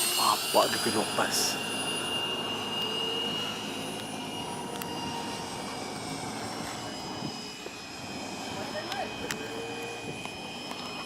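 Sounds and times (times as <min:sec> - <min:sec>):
rc jet high-pitched whine: 0:00.0 - 0:11.0.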